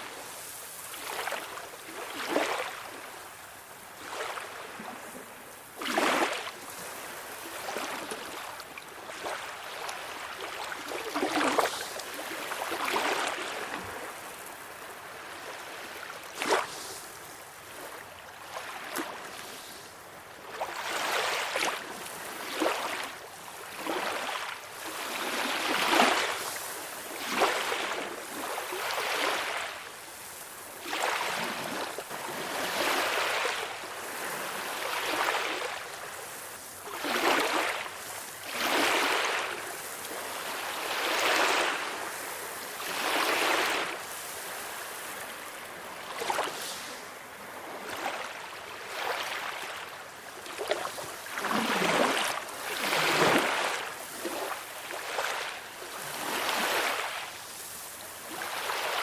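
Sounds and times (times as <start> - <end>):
small ocean waves washing on shore: 0.0 - 59.0.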